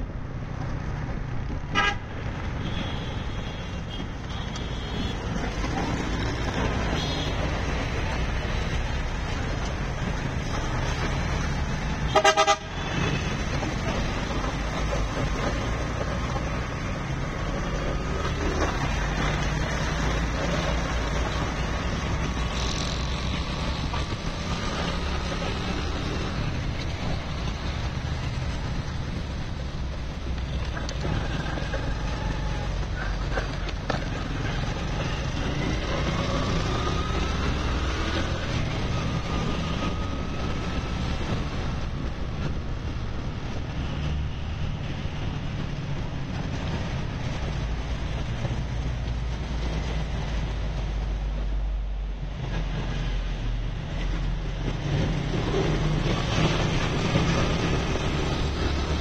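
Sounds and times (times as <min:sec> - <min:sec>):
vehicle engine and tyre noise: 0:00.0 - 0:59.0.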